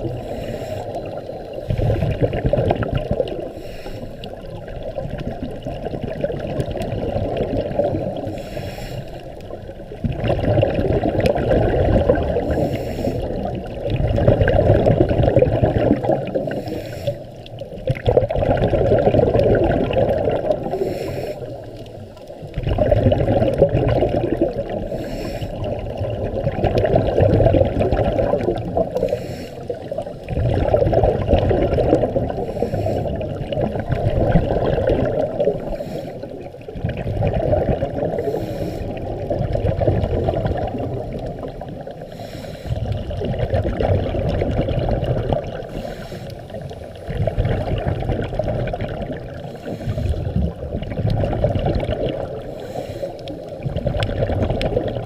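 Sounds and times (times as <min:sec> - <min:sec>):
muffled underwater water rush: 0:00.0 - 0:55.0.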